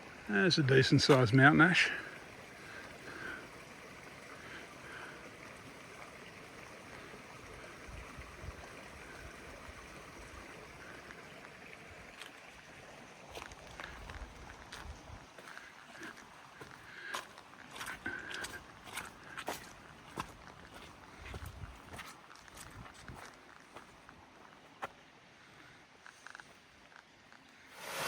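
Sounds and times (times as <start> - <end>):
creek trickling: 0.0 - 28.0.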